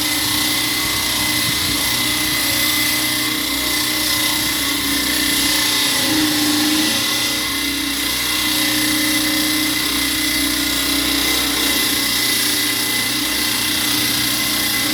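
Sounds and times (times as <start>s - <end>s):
power tool cutting concrete: 0.0s - 14.9s.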